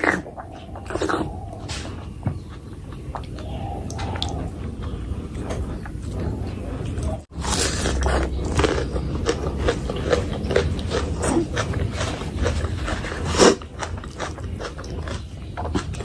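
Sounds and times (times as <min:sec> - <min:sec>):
close chewing with lip smacking: 0:00.0 - 0:16.0.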